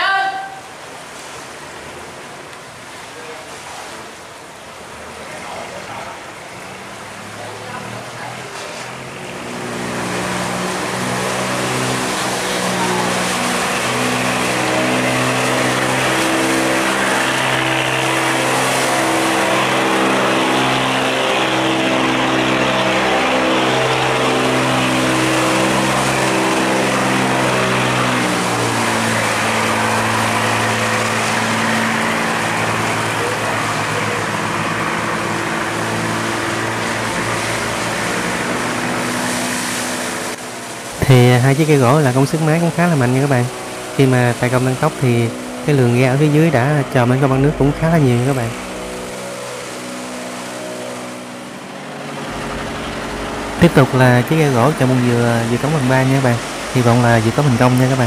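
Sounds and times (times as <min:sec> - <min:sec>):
churning water rushing: 0:00.0 - 0:58.0
barge diesel engine running hard: 0:07.2 - 0:58.0.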